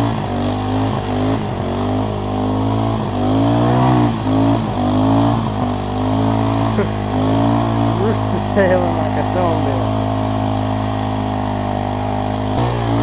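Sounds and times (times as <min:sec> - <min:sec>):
atv engine running under load: 0:00.0 - 0:13.0.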